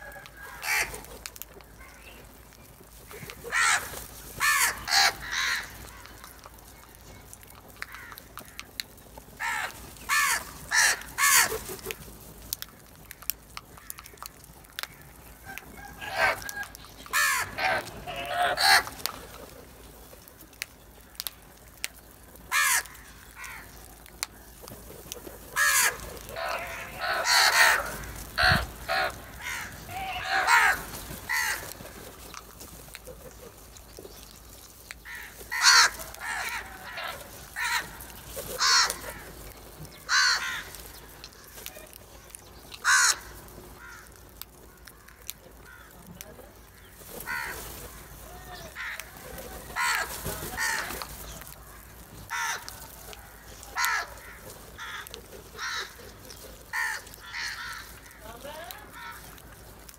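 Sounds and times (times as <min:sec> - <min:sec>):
crows cawing: 0:00.0 - 0:02.4, 0:03.0 - 0:06.8, 0:07.6 - 0:12.0, 0:12.6 - 0:19.6, 0:21.0 - 0:34.2, 0:35.0 - 0:59.9.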